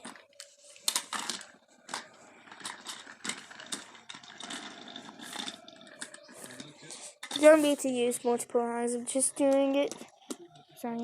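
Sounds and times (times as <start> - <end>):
toy train rattling: 0.0 - 11.0.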